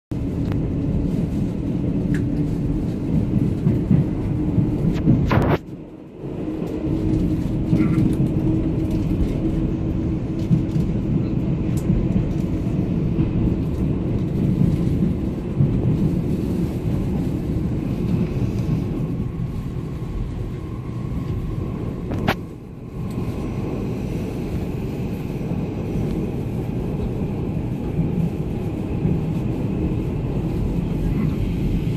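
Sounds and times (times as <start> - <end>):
train rumble from inside carriage: 0.1 - 31.9.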